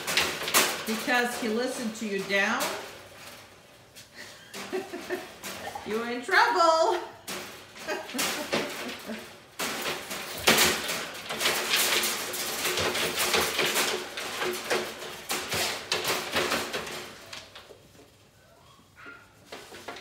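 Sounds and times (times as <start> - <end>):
wire dog crate rattling: 0.0 - 18.2.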